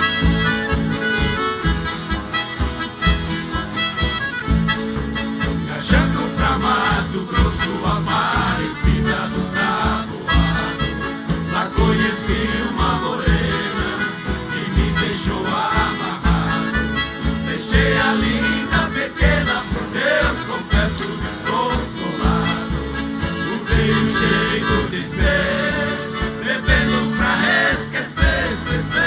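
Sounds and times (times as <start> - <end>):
live country band music: 0.0 - 29.0.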